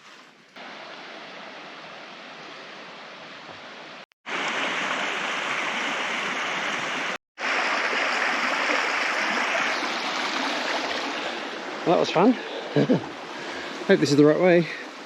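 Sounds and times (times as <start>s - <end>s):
fast-flowing river water: 0.6s - 15.0s.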